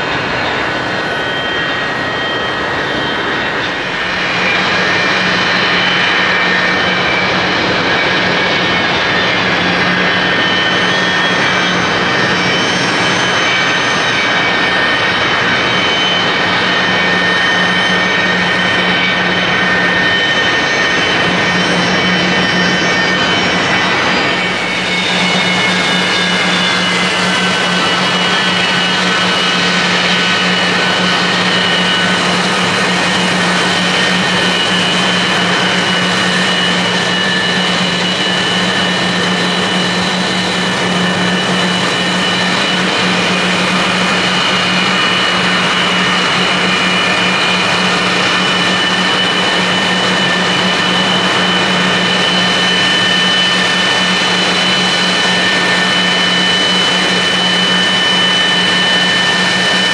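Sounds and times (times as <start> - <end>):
high jet whine: 0.0 - 59.9
jet engine roar: 0.0 - 59.9.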